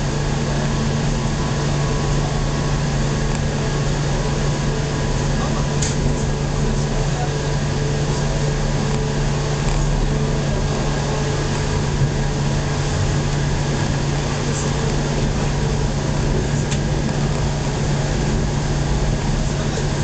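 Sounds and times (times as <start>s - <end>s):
train cabin hum: 0.0s - 20.0s
wheels rumbling on rail: 0.0s - 20.0s.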